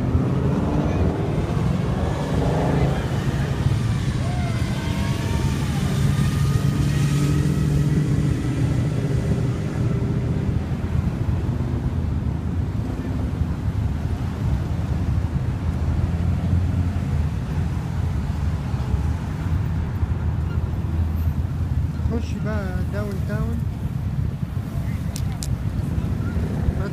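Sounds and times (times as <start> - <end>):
car engine rumble: 0.0 - 26.9
road noise: 0.0 - 26.9.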